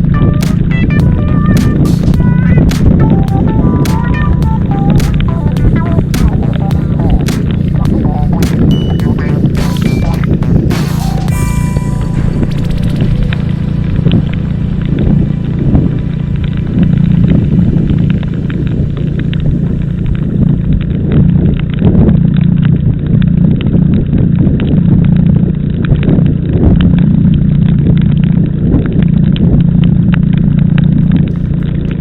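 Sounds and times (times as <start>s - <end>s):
car engine and road drone: 0.0s - 32.0s.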